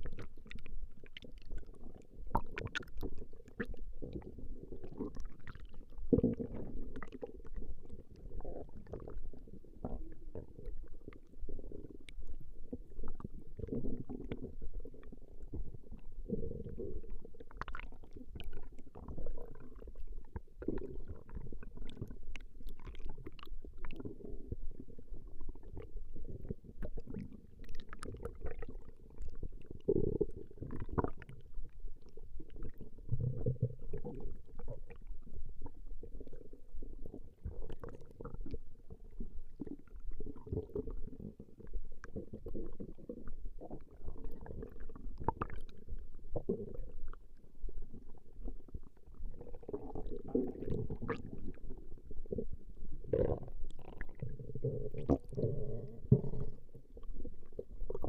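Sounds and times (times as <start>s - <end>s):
stomach growling: 0.0s - 58.0s.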